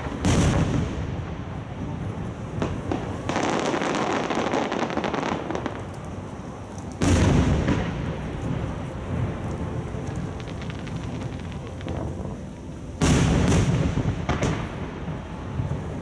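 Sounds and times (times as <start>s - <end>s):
distant fireworks crackling: 0.0s - 16.0s.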